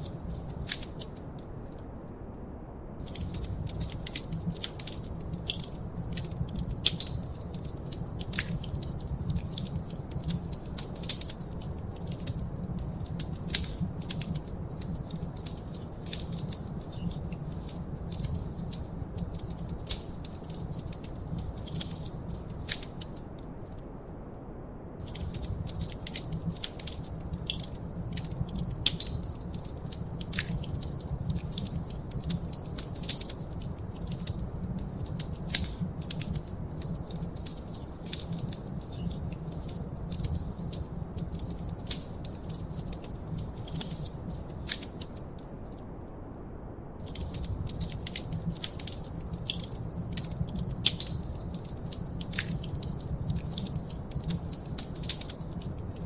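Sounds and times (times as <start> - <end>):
wood fire crackling: 0.0 - 1.9, 3.0 - 23.8, 25.0 - 46.0, 47.0 - 56.0.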